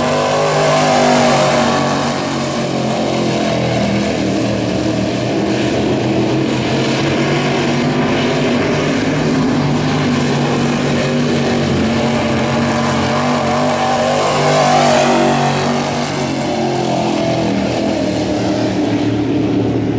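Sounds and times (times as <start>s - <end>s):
race car engine at high throttle: 0.0s - 19.9s.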